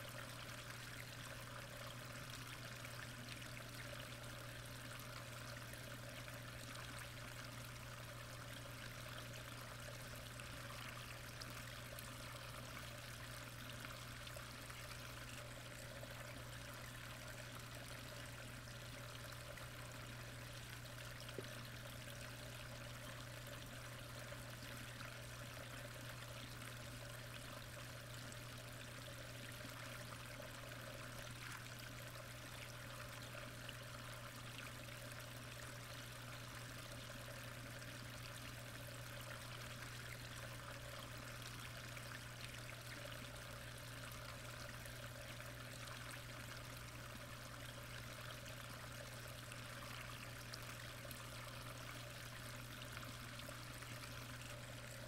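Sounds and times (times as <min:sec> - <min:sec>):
constant low hum: 0:00.0 - 0:55.0.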